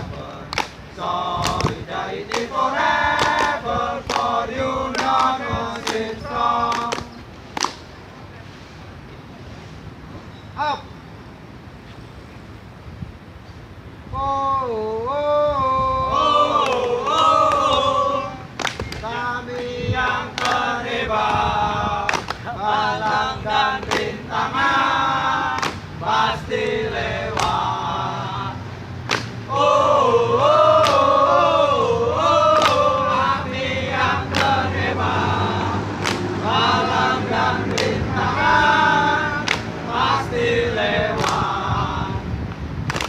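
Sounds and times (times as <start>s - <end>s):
group singing a chant-like tune: 0.0s - 7.3s, 14.7s - 43.0s.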